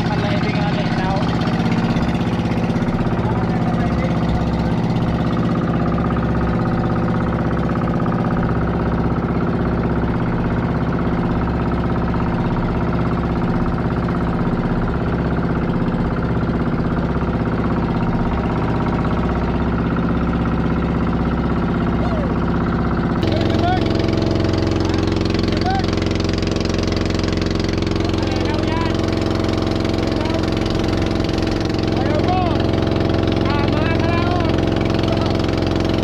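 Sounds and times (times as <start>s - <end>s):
boat engine chugging: 0.0s - 36.0s.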